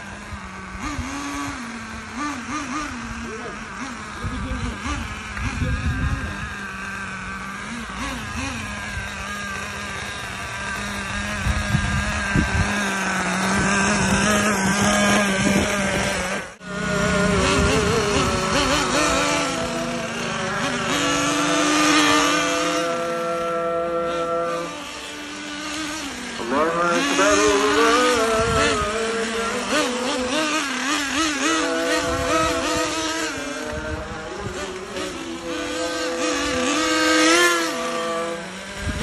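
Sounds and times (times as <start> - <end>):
rc car engine revving: 0.0 - 39.0.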